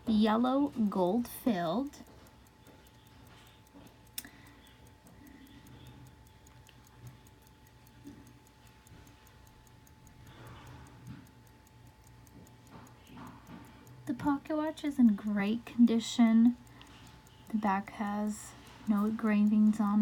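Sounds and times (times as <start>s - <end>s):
pocket watch ticking: 0.0s - 20.0s.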